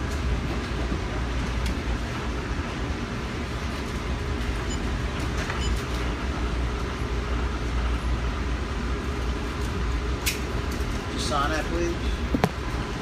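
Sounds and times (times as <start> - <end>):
train rumbling inside car: 0.0 - 13.0.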